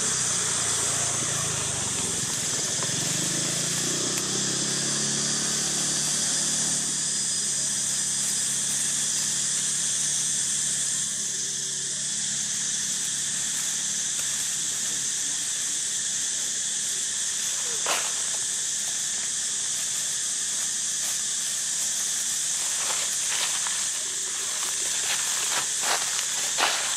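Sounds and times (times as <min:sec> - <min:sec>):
insect chorus drone: 0:00.0 - 0:26.9.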